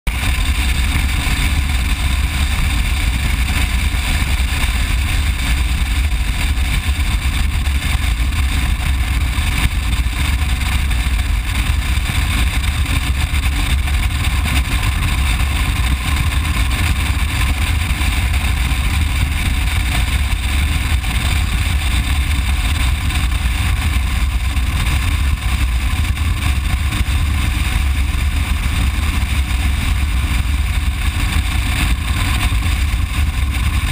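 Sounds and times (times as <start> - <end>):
motorcycle engine rumble: 0.1 - 33.9
wind rushing on microphone: 0.1 - 33.9.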